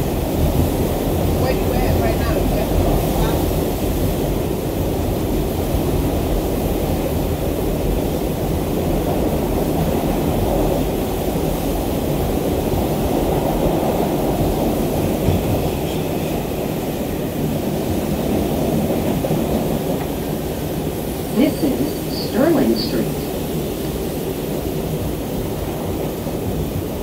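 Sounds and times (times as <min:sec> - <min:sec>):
subway car rumbling: 0:00.0 - 0:27.0.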